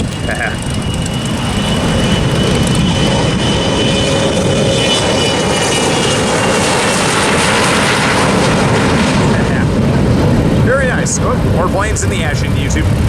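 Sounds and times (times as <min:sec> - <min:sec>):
jet airplane taking off: 0:00.0 - 0:13.0.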